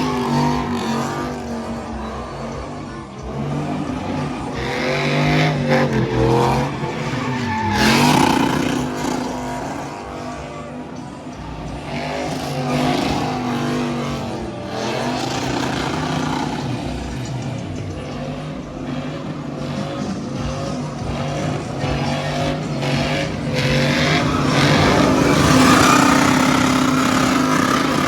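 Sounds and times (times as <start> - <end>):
tires squealing and skidding: 0.0 - 28.0
truck engines revving: 0.0 - 28.0.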